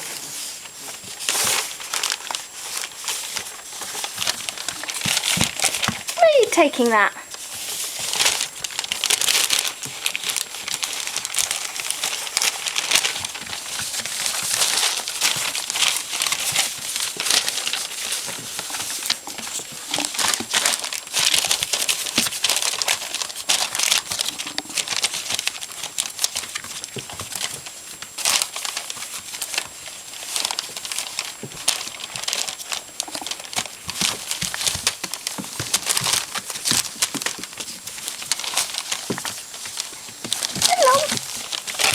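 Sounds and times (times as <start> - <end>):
crinkling and rustling: 0.0 - 41.9.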